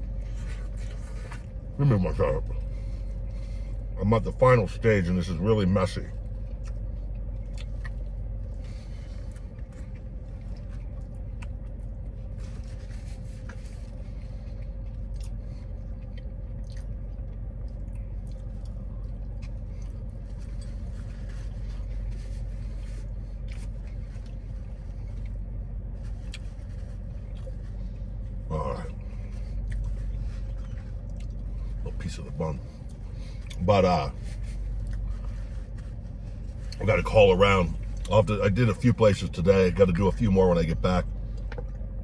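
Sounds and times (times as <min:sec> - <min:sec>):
man chewing a burger: 0:00.0 - 0:04.8, 0:05.8 - 0:36.8, 0:37.7 - 0:40.4
car interior hum: 0:00.0 - 0:42.0.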